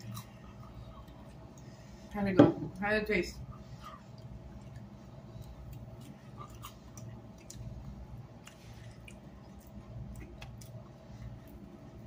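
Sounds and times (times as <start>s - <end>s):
person chewing food: 0.0s - 1.9s, 3.5s - 12.0s
low steady hum: 0.0s - 12.0s.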